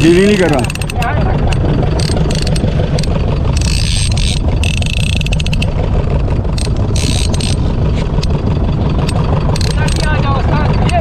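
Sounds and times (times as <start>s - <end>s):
fishing reel clicking rapidly: 0.0s - 5.8s, 6.5s - 7.6s, 9.0s - 11.0s
boat diesel engine running: 0.0s - 11.0s.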